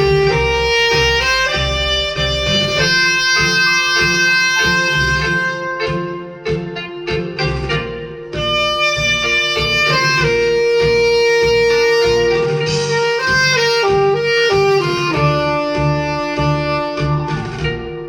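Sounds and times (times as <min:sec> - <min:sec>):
instrumental music over a bass beat: 0:00.0 - 0:18.0.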